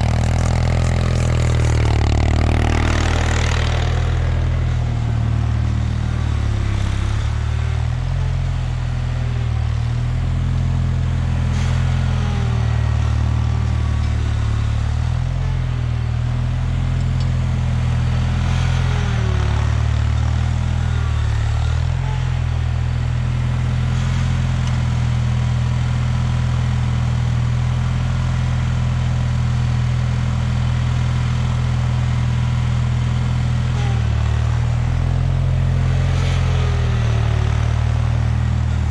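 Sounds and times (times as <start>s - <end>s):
garden tractor engine running: 0.0s - 26.6s, 31.5s - 38.9s.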